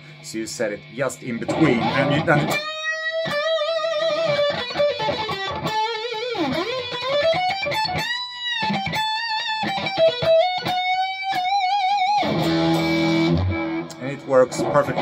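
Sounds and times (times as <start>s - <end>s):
overdriven electric guitar lead: 0.0s - 15.0s.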